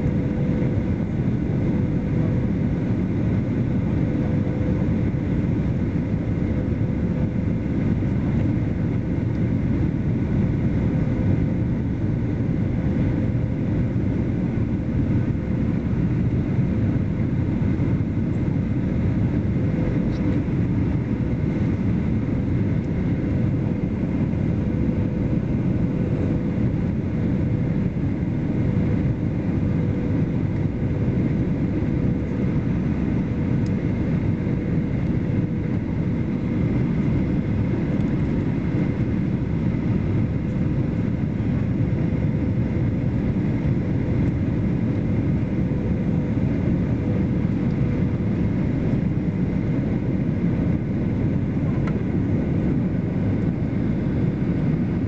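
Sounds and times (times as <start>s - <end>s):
airliner engines and airflow rushing: 0.0s - 55.0s
faint steady hum: 0.0s - 55.0s.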